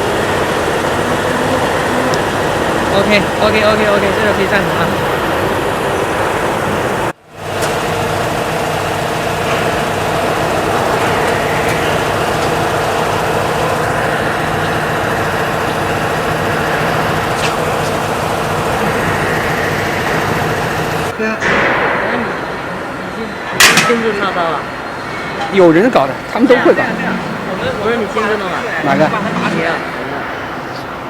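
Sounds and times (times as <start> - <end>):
engine running with steady hum: 0.0 - 23.8, 24.4 - 31.0.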